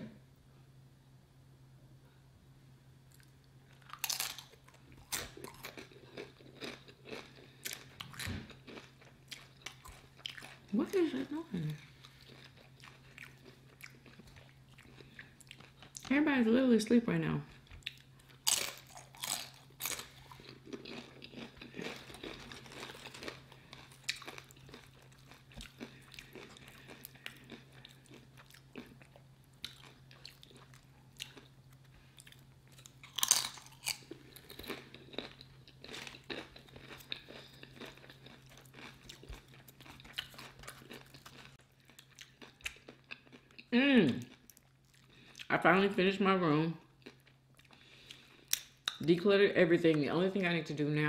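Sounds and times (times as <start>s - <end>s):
person chewing crunchy food: 3.1s - 16.1s, 17.5s - 45.5s, 46.9s - 49.0s.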